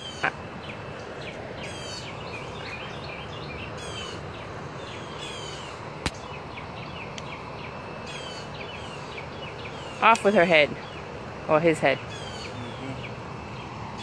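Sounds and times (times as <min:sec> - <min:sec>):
outdoor background hiss: 0:00.0 - 0:14.0
small birds chirping: 0:00.0 - 0:14.0.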